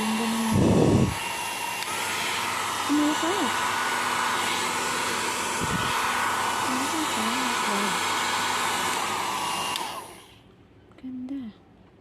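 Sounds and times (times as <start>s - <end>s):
hair dryer running: 0.0s - 10.4s.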